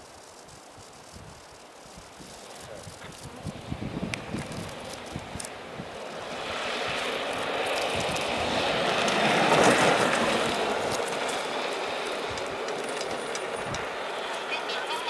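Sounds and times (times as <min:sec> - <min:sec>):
tyres hissing on asphalt: 0:00.0 - 0:15.0.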